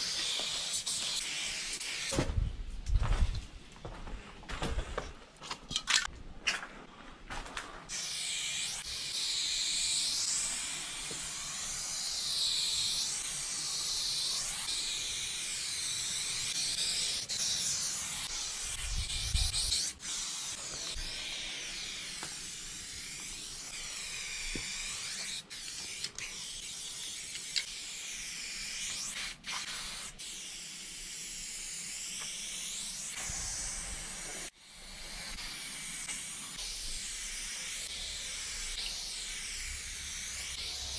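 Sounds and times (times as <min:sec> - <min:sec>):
spray-paint can hissing: 0:00.0 - 0:02.2, 0:07.9 - 0:40.9.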